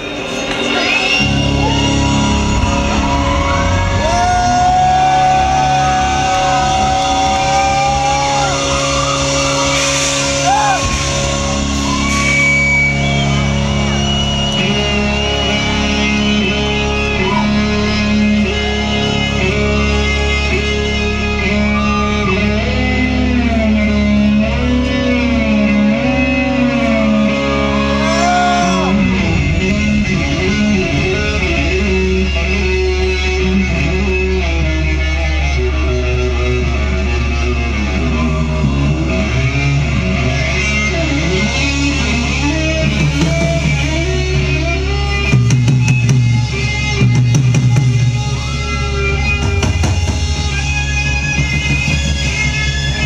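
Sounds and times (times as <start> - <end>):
rock band playing loudly: 0.0 - 53.0
lead guitar bending notes: 1.0 - 53.0
low bass: 1.2 - 53.0.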